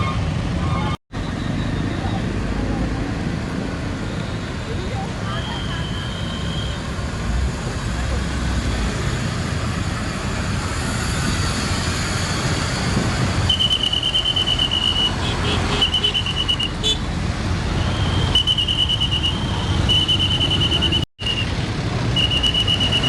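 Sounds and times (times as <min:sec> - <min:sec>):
road traffic: 0:00.0 - 0:23.0
truck engines passing: 0:00.0 - 0:23.0.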